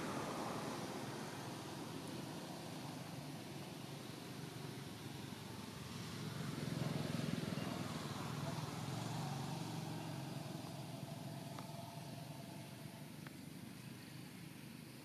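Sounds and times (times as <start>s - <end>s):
vehicle engine rumble passing: 0.0s - 15.0s.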